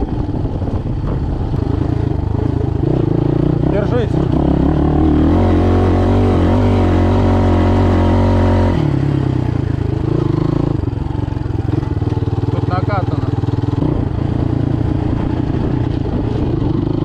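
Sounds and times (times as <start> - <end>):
motorcycle engine under throttle: 0.0 - 17.0.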